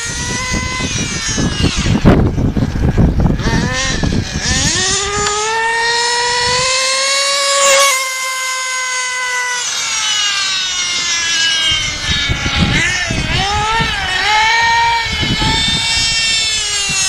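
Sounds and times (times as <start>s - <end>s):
rc buggy engine whining: 0.0s - 17.0s.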